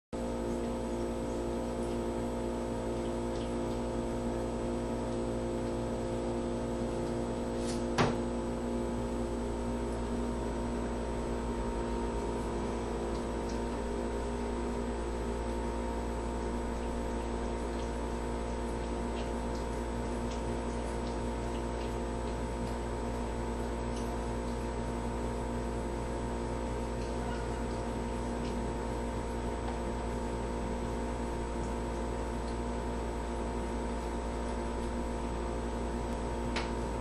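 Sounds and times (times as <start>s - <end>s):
steady mechanical hum: 0.2s - 37.0s.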